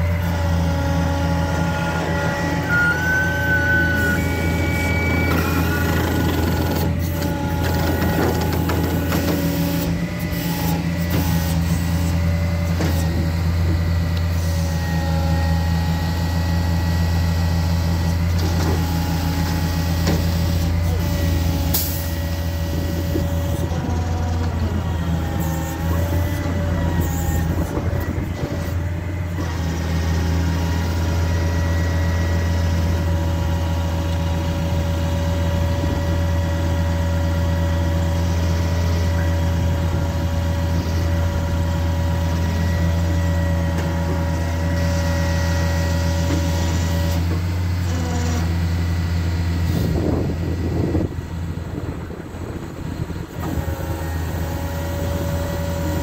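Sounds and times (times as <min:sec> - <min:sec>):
diesel engine running: 0:00.0 - 0:56.0
hydraulic whine: 0:00.0 - 0:56.0.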